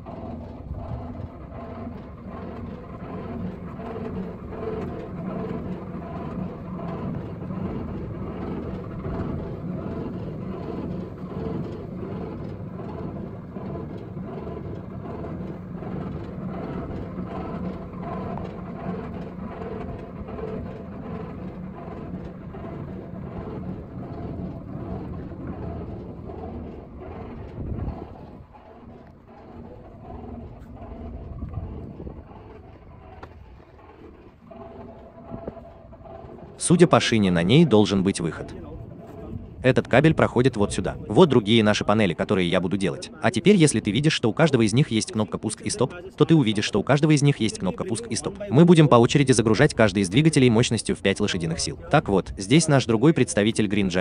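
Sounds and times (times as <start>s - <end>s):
electric motor rig humming: 0.0s - 54.0s
rushing mechanical noise: 0.0s - 54.0s.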